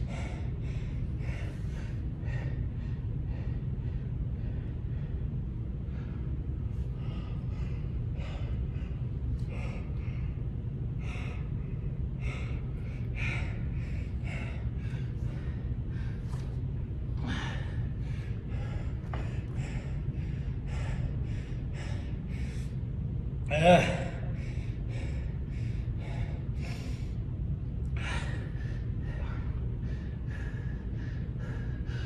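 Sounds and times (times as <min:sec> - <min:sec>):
man breathing hard: 0:00.0 - 0:32.0
steady low hum: 0:00.0 - 0:32.0.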